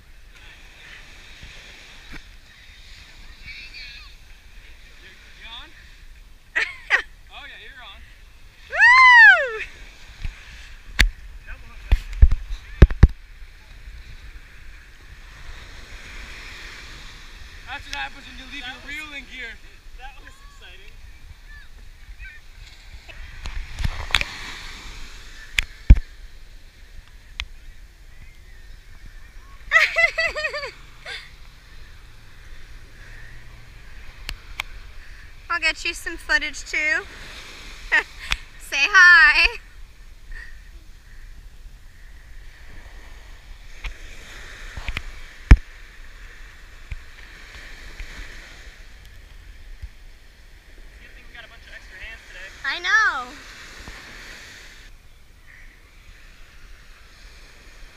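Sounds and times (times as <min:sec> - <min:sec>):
small waves breaking on beach: 0:00.0 - 0:57.9.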